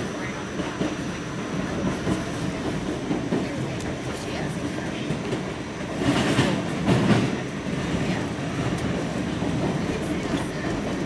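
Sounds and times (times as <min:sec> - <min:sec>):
subway car rumbling: 0:00.0 - 0:11.0
wheels clickety-clack: 0:01.7 - 0:11.0.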